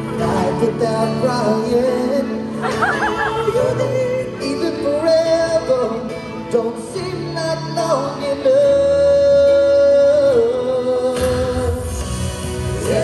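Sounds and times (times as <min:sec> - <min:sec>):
male vocal group singing ballad: 0:00.0 - 0:13.0.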